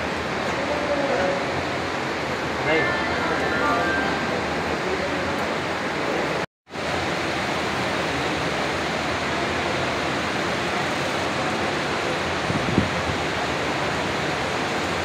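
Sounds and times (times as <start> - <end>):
electric fans rushing: 0.0 - 15.0.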